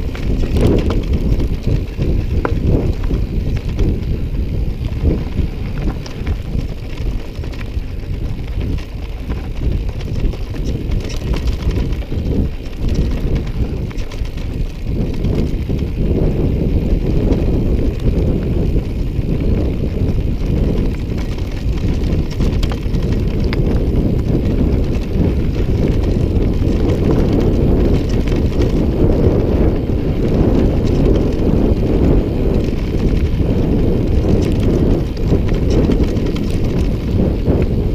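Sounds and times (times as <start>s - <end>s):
bike rattling: 0.0s - 37.9s
wind buffeting microphone: 0.0s - 37.9s.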